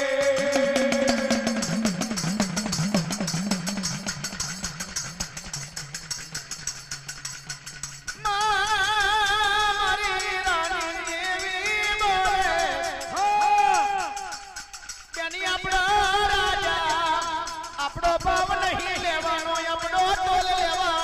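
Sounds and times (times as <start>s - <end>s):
fast percussion beat: 0.0s - 21.0s.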